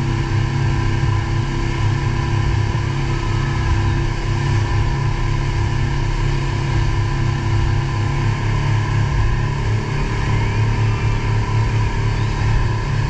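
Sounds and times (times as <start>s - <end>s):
outboard motor running: 0.0s - 13.0s
water rushing in wake: 0.0s - 13.0s.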